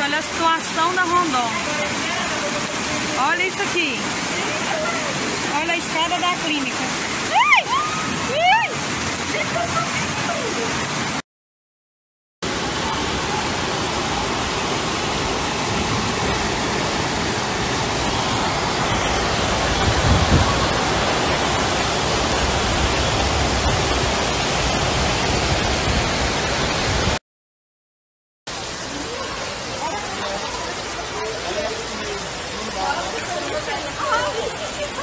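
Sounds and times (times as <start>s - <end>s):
floodwater rushing in heavy rain: 0.0s - 11.2s, 12.4s - 27.2s, 28.5s - 35.0s.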